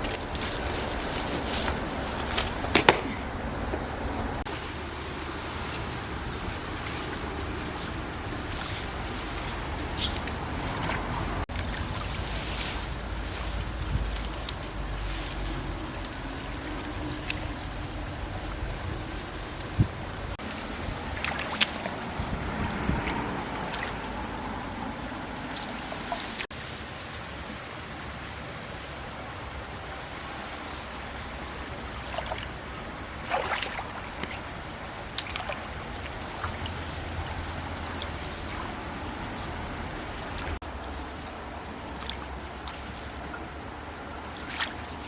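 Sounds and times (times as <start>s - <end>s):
water splashes: 0.0s - 45.0s
water trickling: 0.0s - 45.0s.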